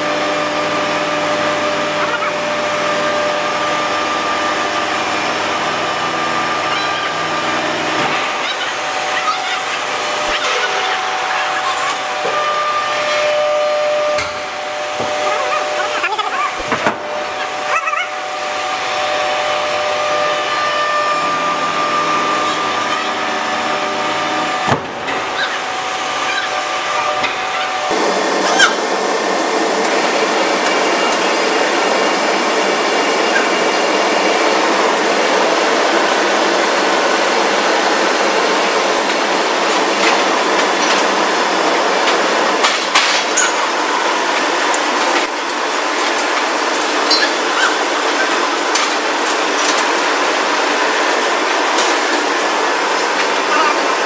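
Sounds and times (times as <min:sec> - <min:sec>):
dense machine roar: 0:00.0 - 0:54.0
machinery hum with held tones: 0:00.0 - 0:54.0.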